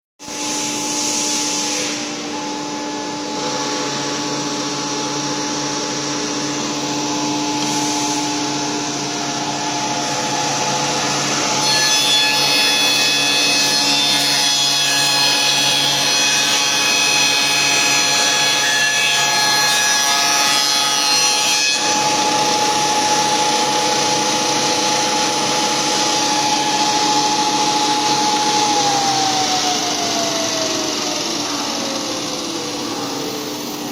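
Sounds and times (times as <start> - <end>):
machine motor hum with whine: 0.2 - 33.9
cutter working wood: 6.4 - 33.9.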